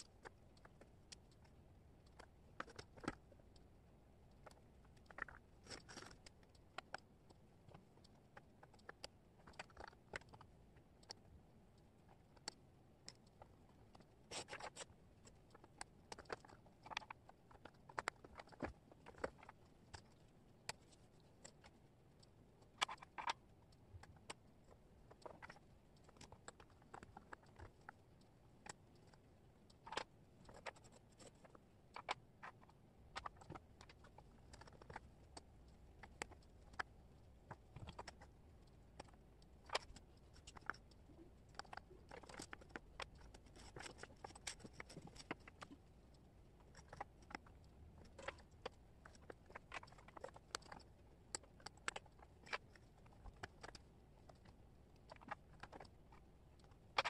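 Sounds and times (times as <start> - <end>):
wooden puzzle pieces clicking: 4.3 - 11.3, 12.1 - 23.4, 24.0 - 57.0.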